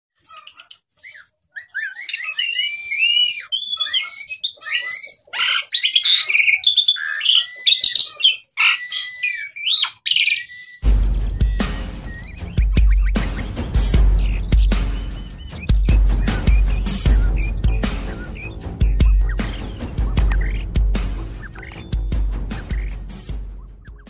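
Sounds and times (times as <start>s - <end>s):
short bird calls: 0.2s - 21.7s
starling singing: 0.2s - 24.0s.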